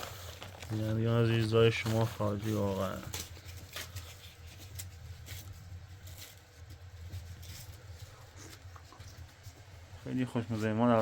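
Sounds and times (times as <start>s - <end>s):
clicks and rustles of eating: 0.0s - 9.9s.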